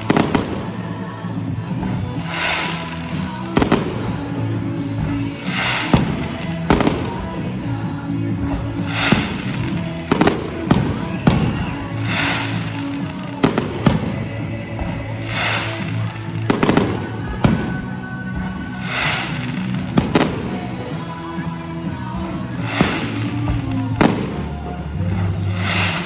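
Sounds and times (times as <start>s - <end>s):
fireworks bangs: 0.0s - 26.0s
fireworks crackling hisses: 0.0s - 26.0s
music playing: 0.0s - 26.0s.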